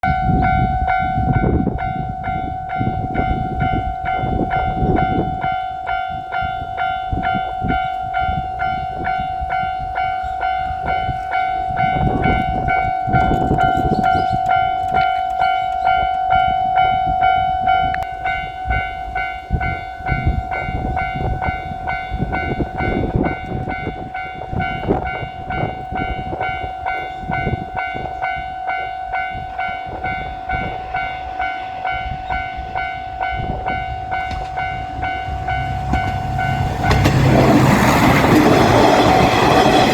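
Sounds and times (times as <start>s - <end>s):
level-crossing warning bell: 0.0s - 39.9s
train wheels rumbling on rails: 0.0s - 39.9s.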